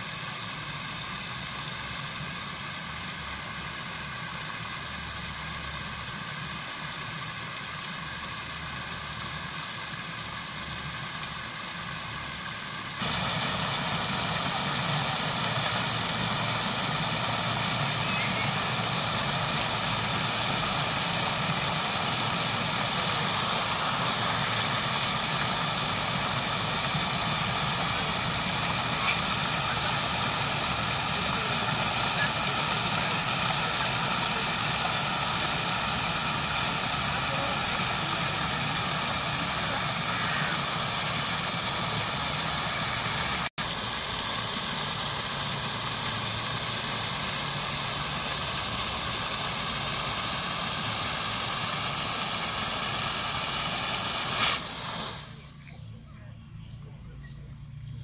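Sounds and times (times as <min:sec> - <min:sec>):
fountain water splashing: 0:00.0 - 0:55.5.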